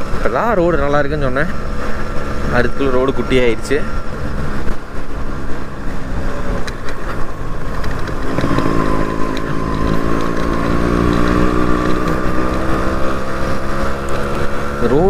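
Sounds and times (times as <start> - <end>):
motorcycle engine accelerating: 0.0 - 15.0
road and wind noise: 0.0 - 15.0.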